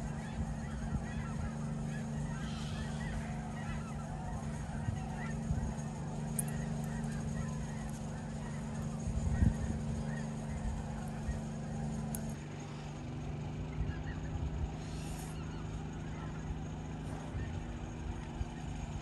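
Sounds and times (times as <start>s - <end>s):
geese honking: 0.0s - 12.9s, 13.6s - 19.0s
steady low hum: 0.0s - 19.0s.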